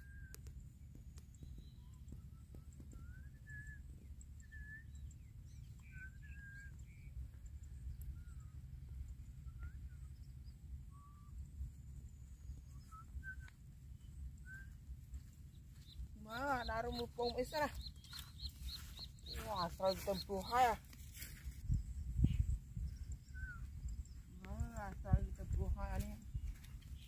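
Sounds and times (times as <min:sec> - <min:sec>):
whistled bird calls: 0:00.0 - 0:00.6, 0:01.2 - 0:07.2, 0:07.8 - 0:11.6, 0:12.3 - 0:21.4, 0:22.2 - 0:24.4.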